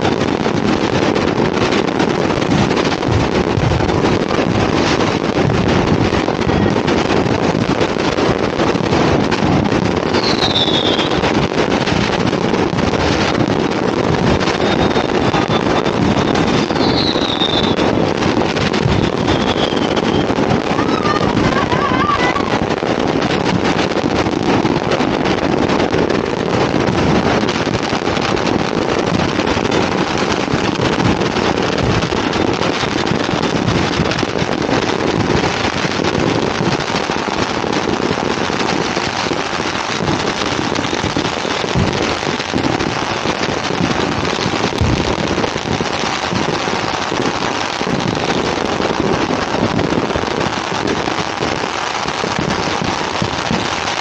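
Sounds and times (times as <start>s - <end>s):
firecrackers crackling: 0.0s - 54.0s.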